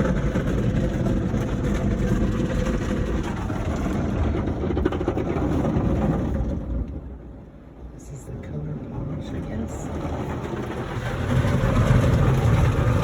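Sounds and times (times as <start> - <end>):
car wash machinery rushing: 0.0 - 13.0.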